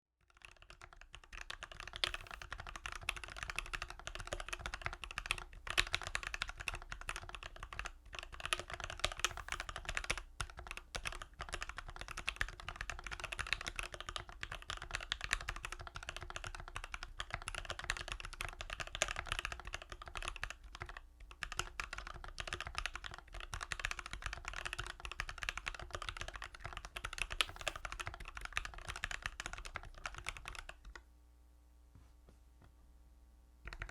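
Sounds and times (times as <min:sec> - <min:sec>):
fast typing on mechanical keyboard: 0:00.3 - 0:31.0, 0:33.7 - 0:33.9.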